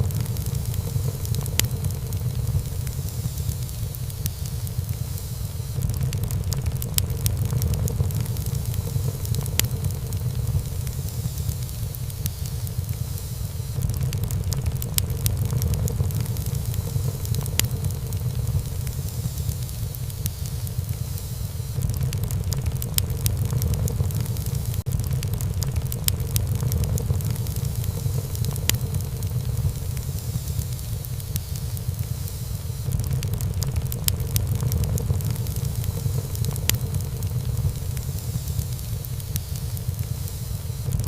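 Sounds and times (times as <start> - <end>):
burning wood crackling and popping: 0.0 - 41.0
fire flames rumbling and hissing: 0.0 - 41.0.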